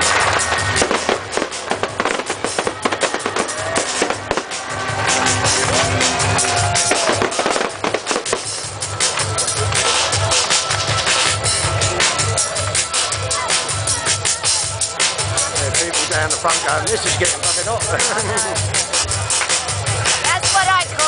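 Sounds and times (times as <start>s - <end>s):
fireworks bangs and crackles: 0.0s - 21.0s
loud music with drum beat: 0.0s - 21.0s.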